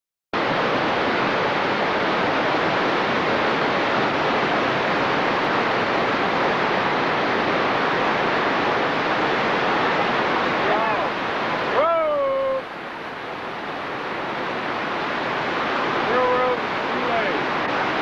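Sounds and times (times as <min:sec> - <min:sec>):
steady rushing noise: 0:00.4 - 0:18.0.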